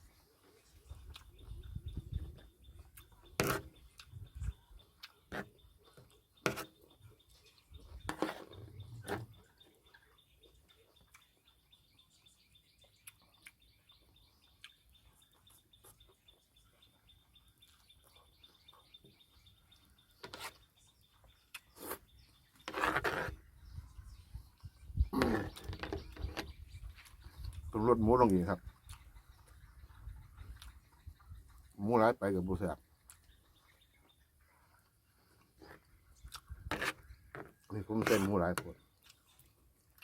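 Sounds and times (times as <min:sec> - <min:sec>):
faint bird chirping: 0:00.0 - 0:40.0
quiet eating: 0:00.0 - 0:40.0.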